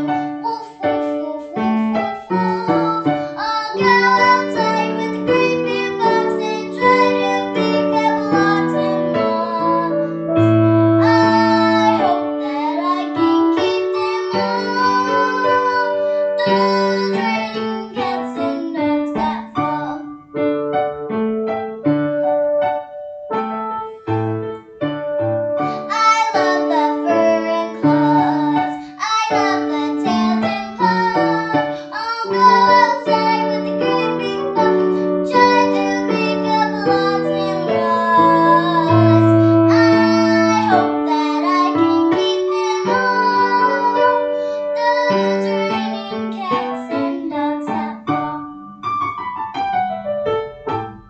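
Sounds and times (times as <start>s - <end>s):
girl singing children's song: 0.0s - 21.0s, 24.5s - 48.9s
keyboard: 0.0s - 51.0s.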